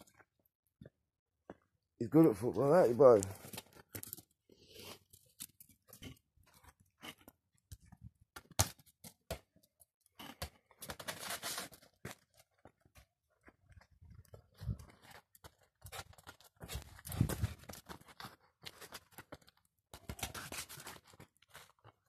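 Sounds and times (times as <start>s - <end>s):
plastic ball on paving stones: 3.2s - 22.0s.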